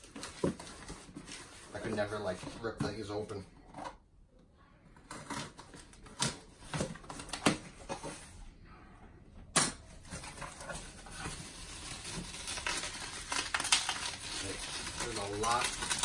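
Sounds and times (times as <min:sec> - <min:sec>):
cardboard and bubble wrap rustling: 0:00.0 - 0:03.8, 0:05.0 - 0:08.4, 0:09.9 - 0:16.0.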